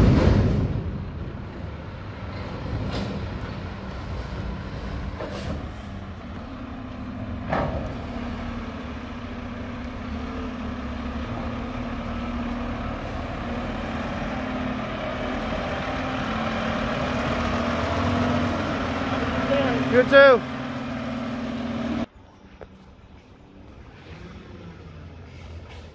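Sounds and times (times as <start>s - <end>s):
garbage truck diesel engine: 0.0s - 22.3s, 23.1s - 25.9s.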